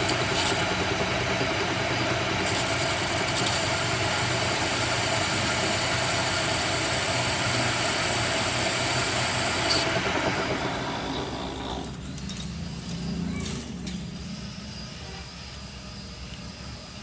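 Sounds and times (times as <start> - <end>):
workshop machine running: 0.0 - 17.0.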